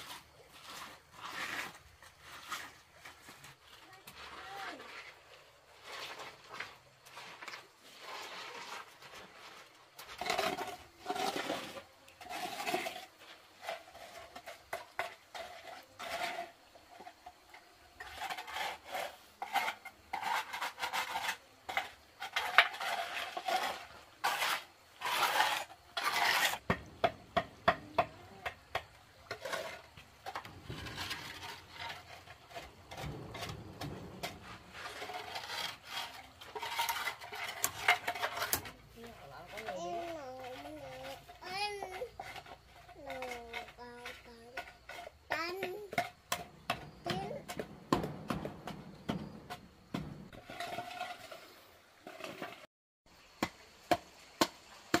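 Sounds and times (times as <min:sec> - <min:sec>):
float scraping wet concrete: 0:00.0 - 0:55.0.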